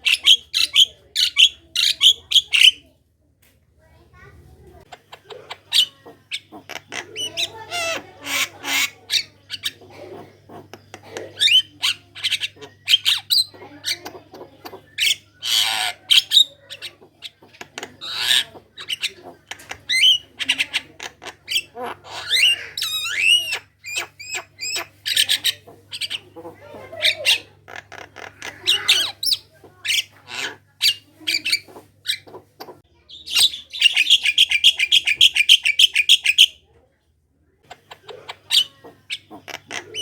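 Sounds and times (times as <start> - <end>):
myna chattering and whistling: 0.0 - 2.9, 4.8 - 36.7, 37.7 - 40.0.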